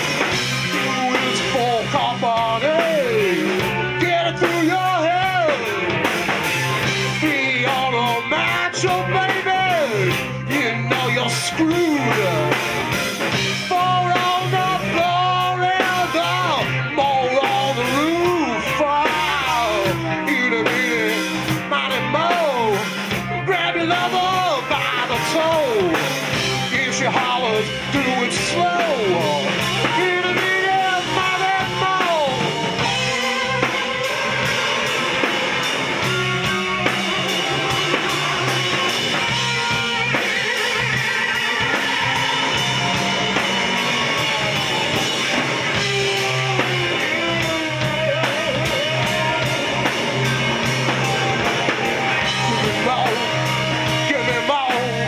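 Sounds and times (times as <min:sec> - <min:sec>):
bending guitar notes: 0:00.0 - 0:55.0
live rock band playing: 0:00.0 - 0:55.0
person singing: 0:00.2 - 0:06.0, 0:06.8 - 0:55.0.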